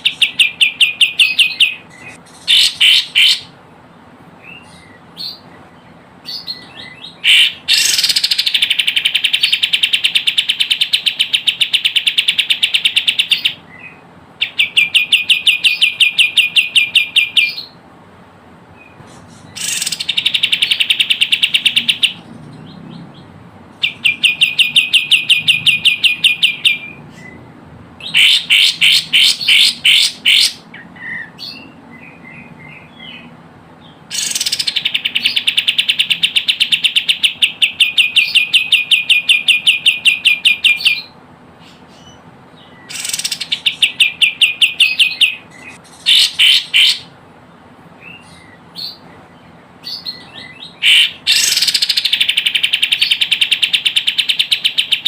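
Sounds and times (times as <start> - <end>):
bird calls with fast trills: 0.0 - 3.6, 4.4 - 17.8, 18.8 - 47.2, 47.9 - 55.0.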